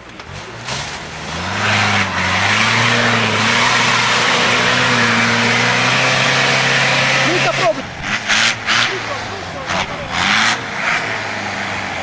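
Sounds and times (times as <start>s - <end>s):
engine at high revs: 0.2s - 12.0s.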